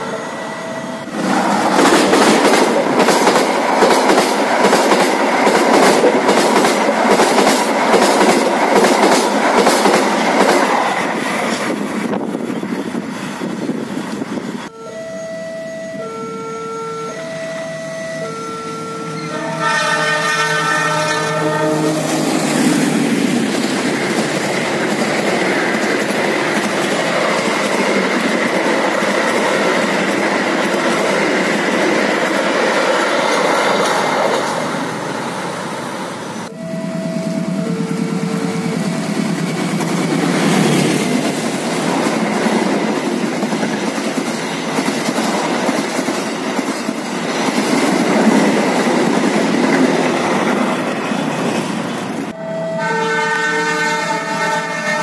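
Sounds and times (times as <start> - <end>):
train wheels rumbling on rails: 0.9 - 14.7, 21.2 - 52.4.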